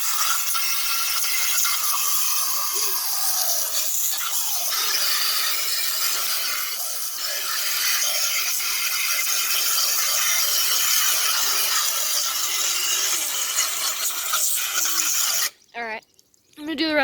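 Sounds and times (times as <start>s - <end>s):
hose water jet spraying: 0.0s - 15.6s.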